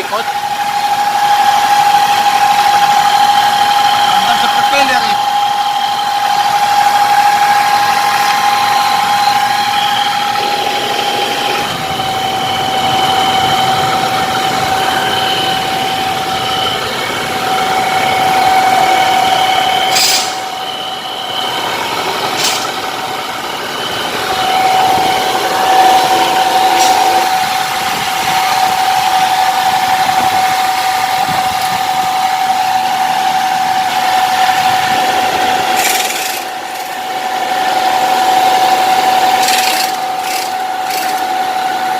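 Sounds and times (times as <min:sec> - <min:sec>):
transfer case whining hum: 0:00.0 - 0:41.9.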